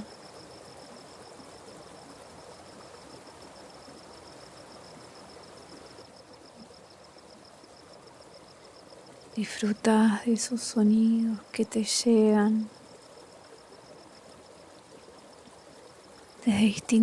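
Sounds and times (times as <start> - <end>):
insect pulsing trill: 0.0 - 17.0.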